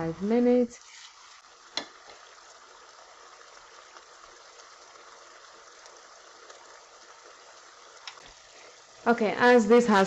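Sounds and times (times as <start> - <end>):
stew bubbling and sizzling: 0.0 - 10.0.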